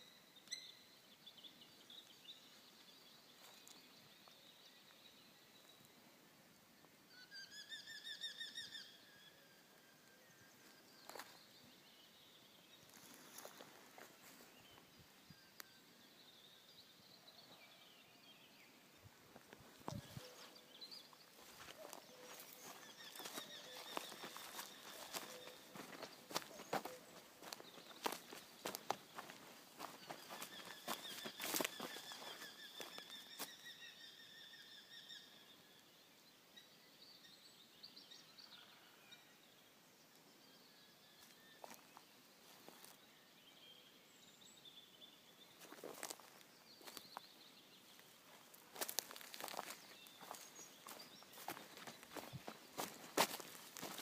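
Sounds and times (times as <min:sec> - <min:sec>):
faint bird chirps: 0:00.0 - 0:06.0, 0:07.0 - 0:39.4, 0:40.1 - 0:54.0
faint songbirds singing: 0:00.0 - 0:54.0.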